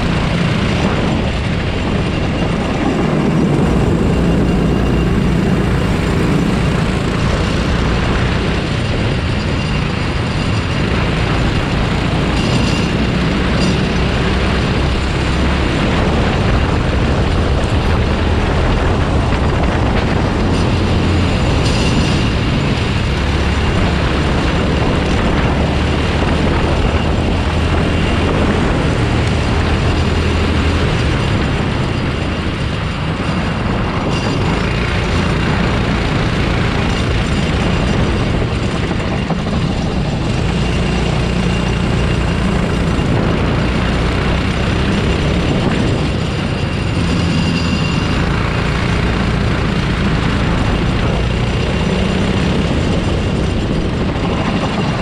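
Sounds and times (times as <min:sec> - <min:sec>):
kart engine revving: 0:00.0 - 0:55.0
rush of wind: 0:00.0 - 0:55.0
track noise: 0:00.0 - 0:55.0.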